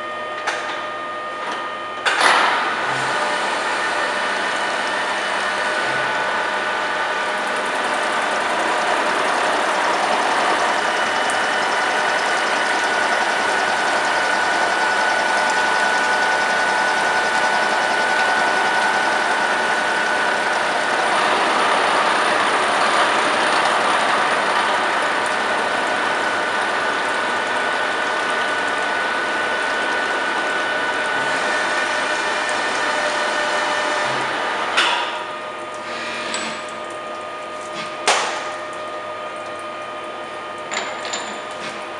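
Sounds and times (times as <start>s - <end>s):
milling machine whine: 0.0s - 41.9s.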